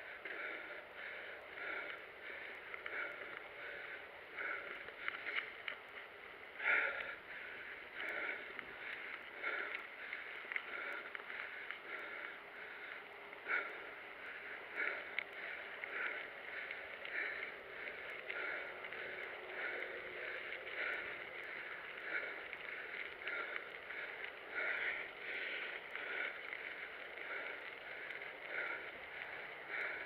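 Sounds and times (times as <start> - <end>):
bike rhythmic whooshing: 0.0 - 30.0
bike tyres rolling on dirt: 0.0 - 30.0.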